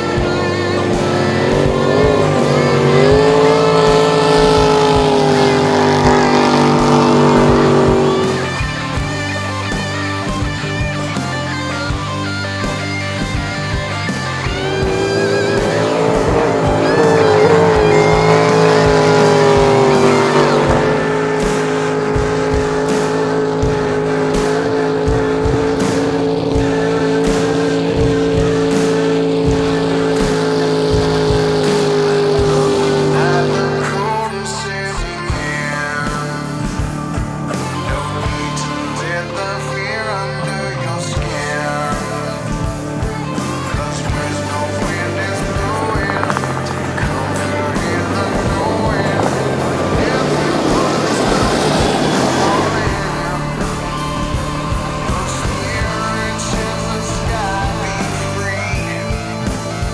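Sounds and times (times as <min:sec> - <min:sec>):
jet boat engine speeding past: 0:00.0 - 0:09.4, 0:14.0 - 0:36.7, 0:43.6 - 0:59.9.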